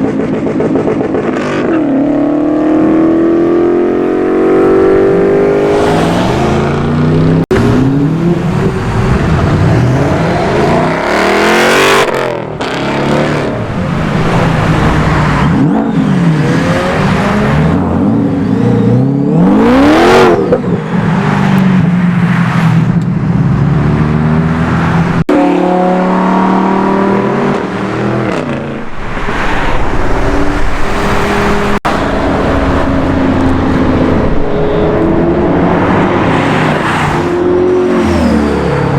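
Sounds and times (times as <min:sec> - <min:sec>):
car engines revving and accelerating: 0:00.0 - 0:38.9.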